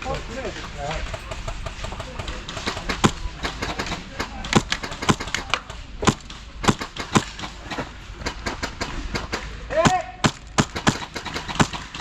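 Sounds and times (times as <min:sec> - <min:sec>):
airsoft gun shots cracking: 0:01.4 - 0:12.0.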